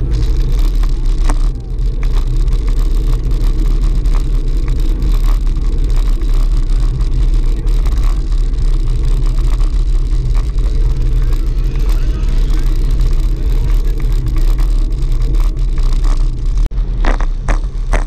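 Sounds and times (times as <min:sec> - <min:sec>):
bicycle tyre road noise: 0:00.0 - 0:18.0
wind buffeting microphone: 0:00.0 - 0:18.0.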